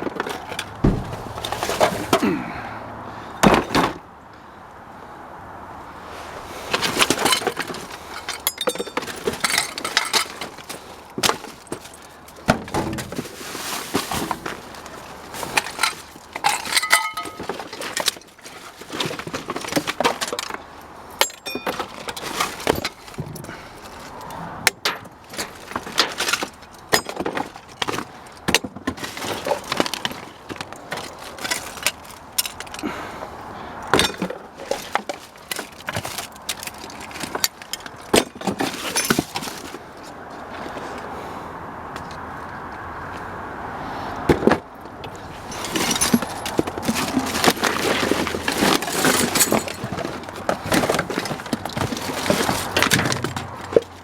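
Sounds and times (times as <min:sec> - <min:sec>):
trash clattering in a dumpster: 0:00.0 - 0:02.8, 0:03.4 - 0:04.1, 0:06.7 - 0:33.2, 0:33.8 - 0:40.0, 0:44.2 - 0:54.0.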